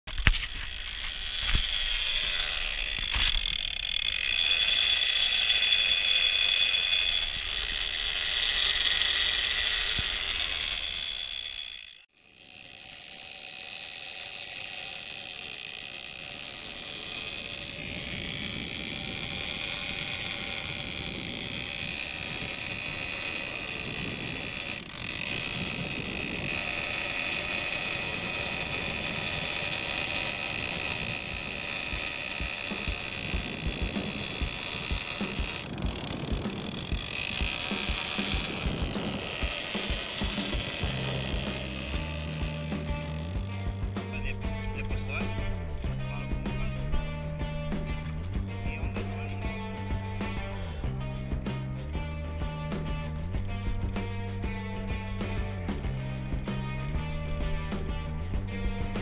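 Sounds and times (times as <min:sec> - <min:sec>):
fishing reel drag screaming: 0:00.1 - 0:59.0.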